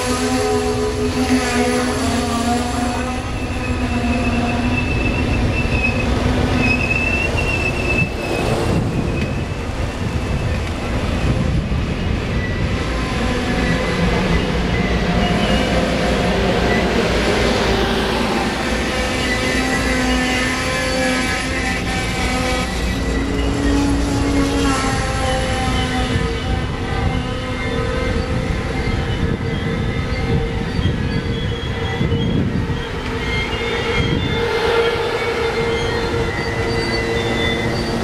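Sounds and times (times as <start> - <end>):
high brake squeals: 0.0 - 10.7, 12.0 - 17.5, 18.1 - 38.0
train cars rumbling: 0.0 - 38.0.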